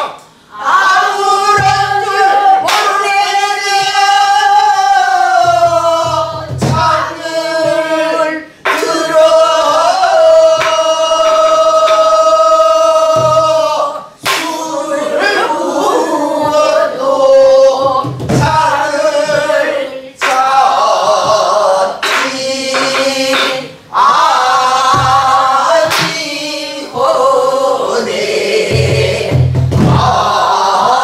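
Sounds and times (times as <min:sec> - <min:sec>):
several voices singing: 0:00.0 - 0:31.0.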